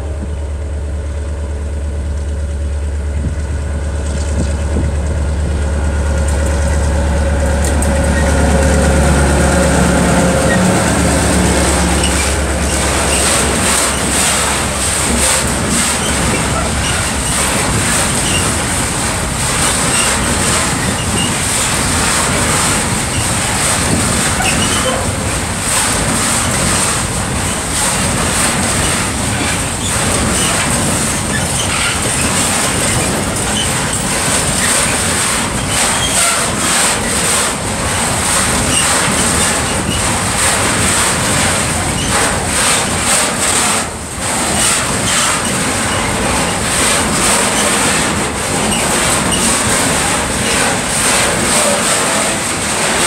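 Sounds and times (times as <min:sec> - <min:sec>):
freight train wheels rumbling: 0:00.0 - 0:53.0
wheels clicking over rail joints: 0:02.4 - 0:53.0.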